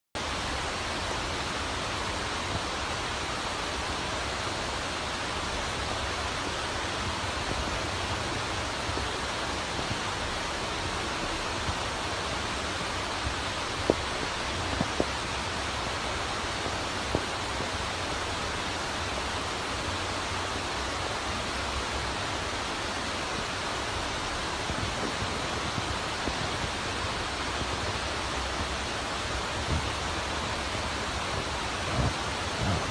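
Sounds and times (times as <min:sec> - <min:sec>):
steady hiss: 0:00.2 - 0:32.9.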